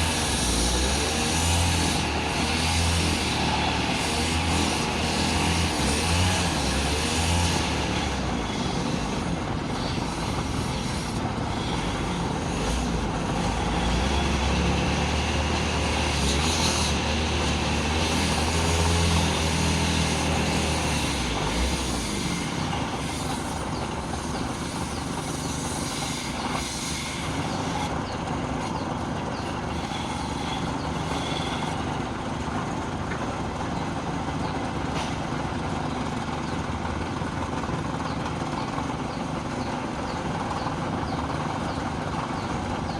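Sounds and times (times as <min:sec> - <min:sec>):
wood lathe running: 0:00.0 - 0:34.8.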